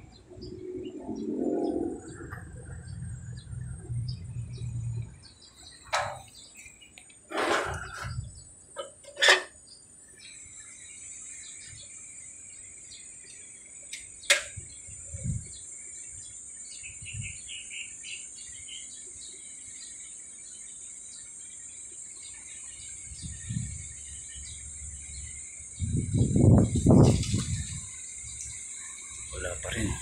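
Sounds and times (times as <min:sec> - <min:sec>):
birds chirping: 0:00.0 - 0:30.0
steady high-pitched hiss: 0:05.6 - 0:30.0.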